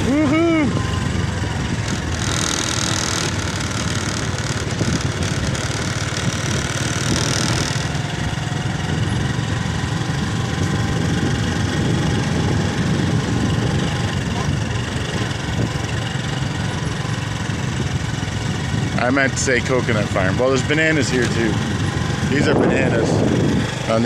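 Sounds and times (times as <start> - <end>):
scooter engine running: 0.0 - 24.0.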